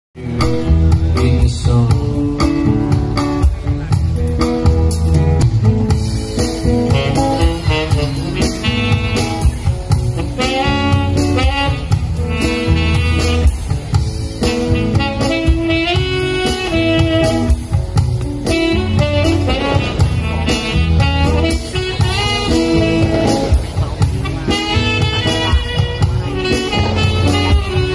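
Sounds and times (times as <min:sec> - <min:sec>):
live band playing amplified music: 0:00.2 - 0:27.9.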